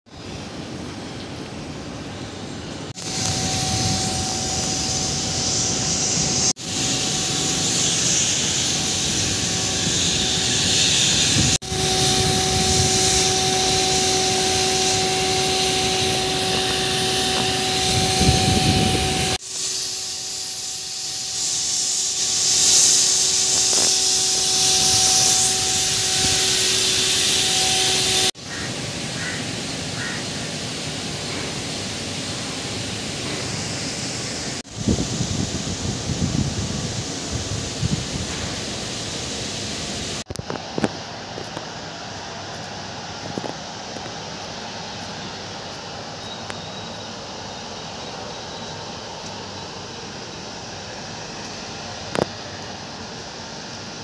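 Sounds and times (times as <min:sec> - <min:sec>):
power plant machinery roar: 0:00.1 - 0:54.0
steady hum: 0:00.2 - 0:54.0.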